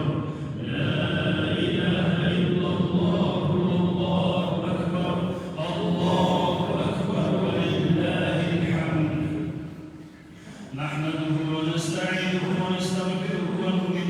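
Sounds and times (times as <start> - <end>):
man chanting melodically: 0.0 - 9.6, 10.7 - 14.0.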